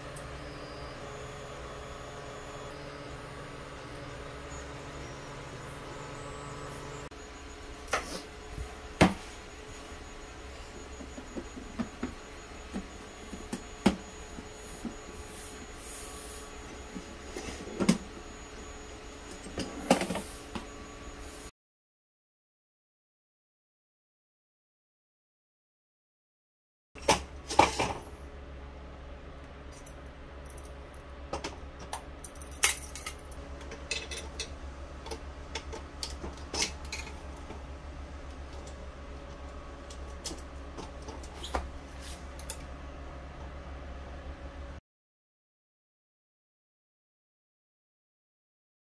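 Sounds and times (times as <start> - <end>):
steady low hum: 0.0 - 21.5, 27.0 - 44.8.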